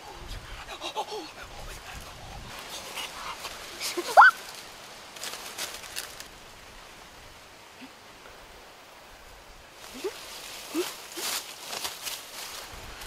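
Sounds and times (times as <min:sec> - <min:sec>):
leaves and brush rustling: 0:00.0 - 0:13.0.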